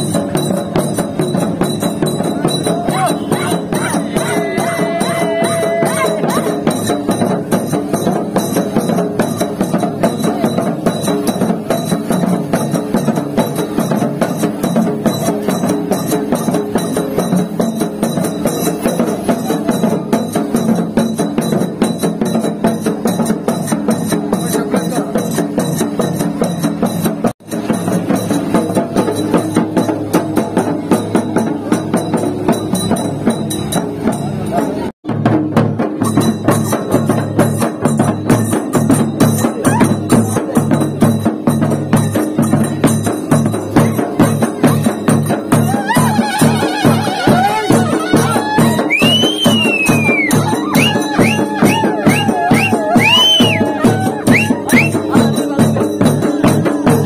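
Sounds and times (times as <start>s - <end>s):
small hand cymbals clashing: 0.0s - 34.9s, 35.8s - 57.0s
barrel drums beaten with sticks: 0.0s - 57.0s.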